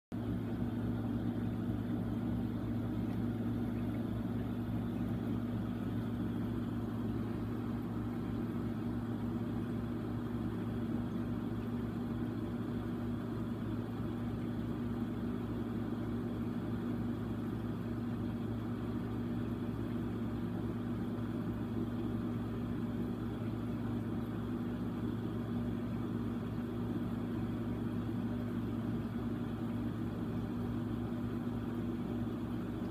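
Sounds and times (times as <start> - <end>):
fish tank pump humming: 0.1 - 32.9.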